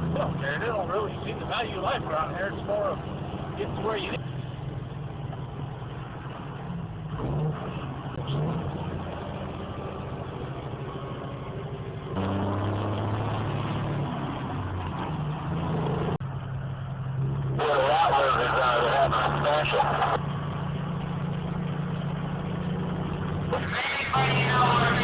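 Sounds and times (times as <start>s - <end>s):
diesel truck engine running: 0.0s - 25.0s
road noise: 0.0s - 25.0s.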